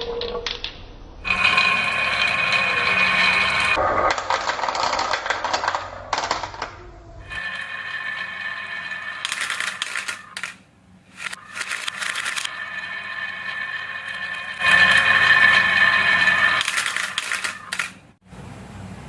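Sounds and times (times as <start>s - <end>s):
marbles rolling on plastic track: 1.2s - 10.5s, 11.2s - 17.9s.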